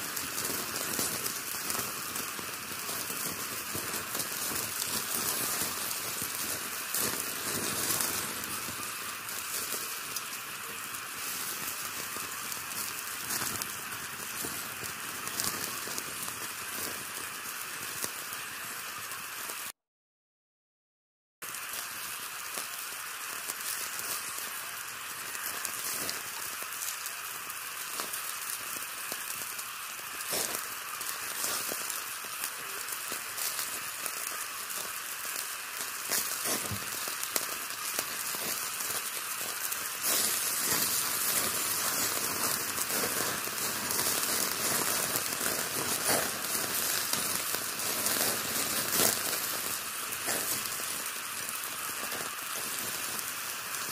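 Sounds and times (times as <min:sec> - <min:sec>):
meat sizzling on charcoal grill: 0:00.0 - 0:19.8, 0:21.4 - 0:53.9.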